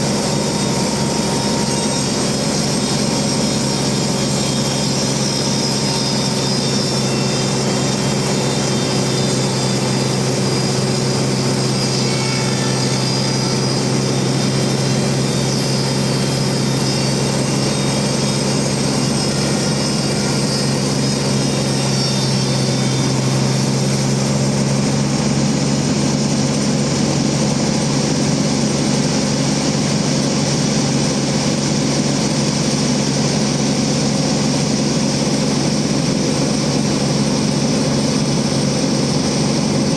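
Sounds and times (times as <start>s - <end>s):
band saw mill drone: 0.0s - 39.9s.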